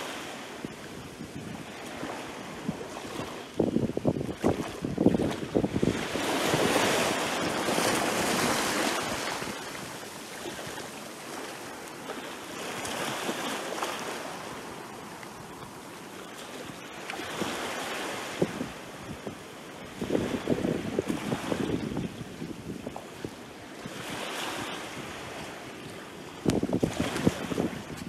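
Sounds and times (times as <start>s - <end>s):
small waves breaking on shore: 0.0s - 28.0s.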